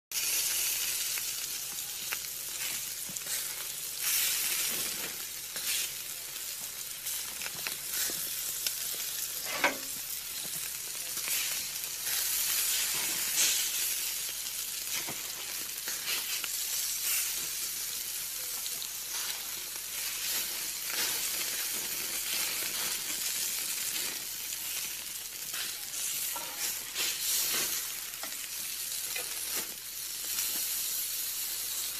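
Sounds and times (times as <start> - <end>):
fat crackling and popping: 0.1 - 31.9
patties sizzling on grill: 0.1 - 31.9.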